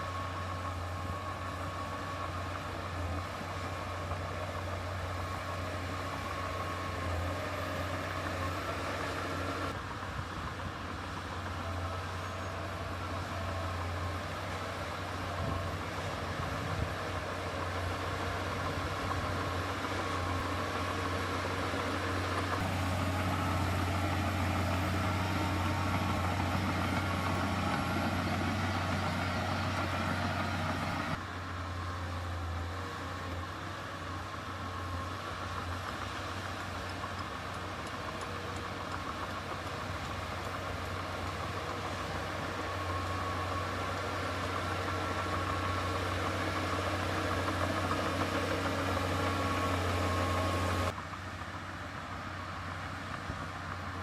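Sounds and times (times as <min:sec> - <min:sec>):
heavy diesel engine drone: 0:00.0 - 0:54.0.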